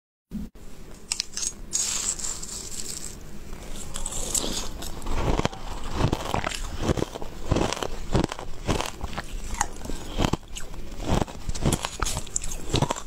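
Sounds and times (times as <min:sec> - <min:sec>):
spoon scraping ice in glass bowl: 0:01.1 - 0:13.0
ice crunched and chewed: 0:01.8 - 0:13.0.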